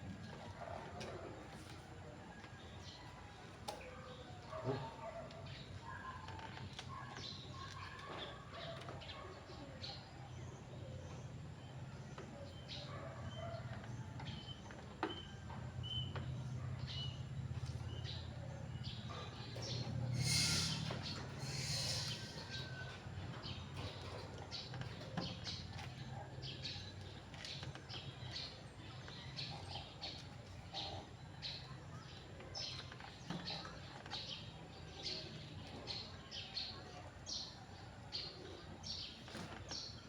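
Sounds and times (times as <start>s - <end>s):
small birds chirping: 2.4s - 40.0s.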